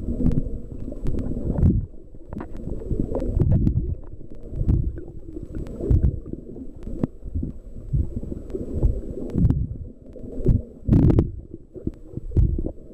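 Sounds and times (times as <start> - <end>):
underwater water rumbles and thumps: 0.0 - 12.9.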